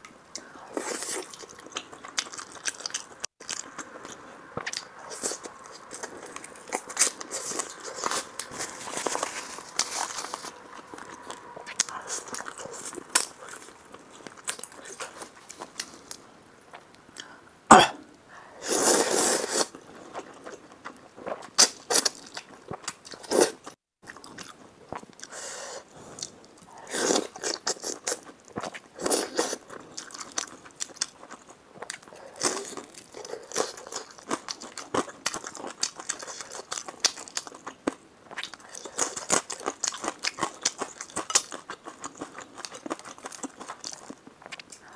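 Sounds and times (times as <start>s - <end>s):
person chewing: 0.4s - 17.3s, 18.7s - 44.9s.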